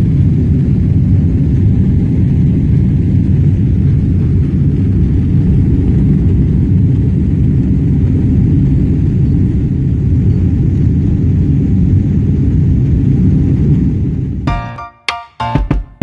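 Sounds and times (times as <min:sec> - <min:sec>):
airplane cabin engine rumble: 0:00.0 - 0:14.5.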